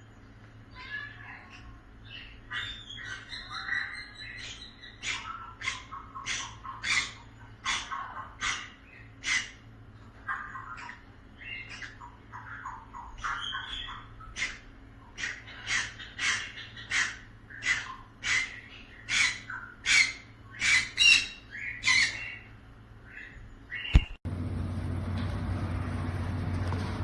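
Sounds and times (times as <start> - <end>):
pet bird squawking: 0.7 - 24.2.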